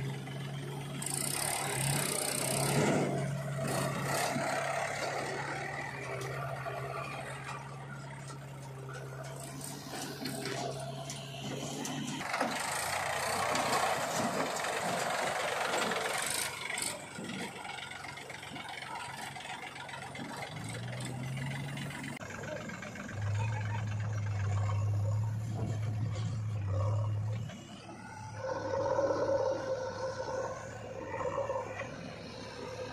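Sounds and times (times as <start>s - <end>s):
diesel engines running: 0.0s - 32.9s
strong engine drone: 0.0s - 32.9s.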